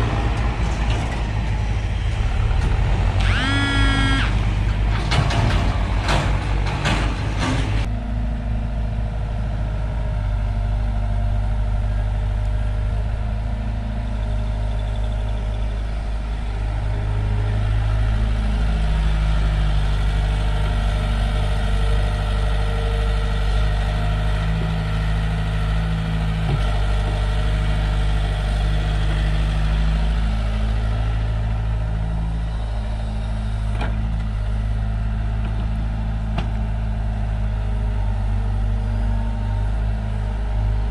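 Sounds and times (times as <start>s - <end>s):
diesel engine of heavy machinery: 0.0s - 40.9s.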